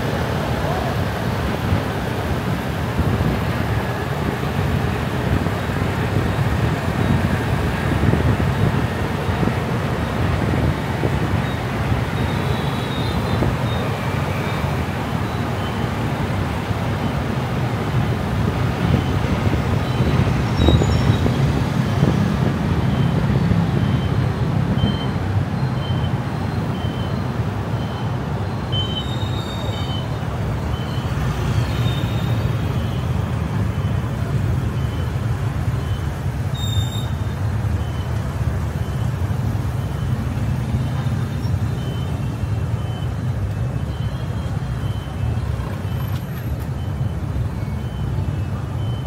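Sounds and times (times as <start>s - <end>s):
car driving through city streets: 0.0s - 49.0s.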